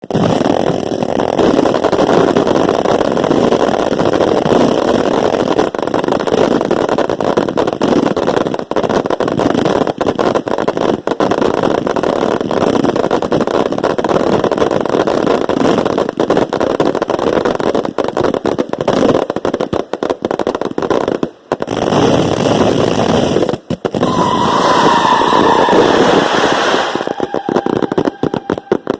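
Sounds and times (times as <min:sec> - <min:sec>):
firework bursts and crackle: 0:00.0 - 0:28.9.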